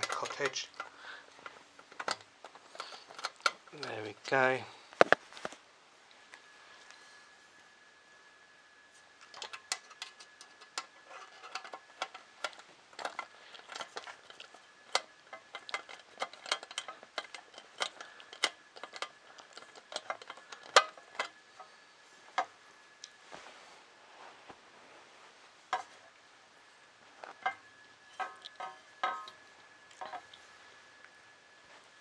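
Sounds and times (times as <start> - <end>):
faint high whine: 0.0 - 32.0.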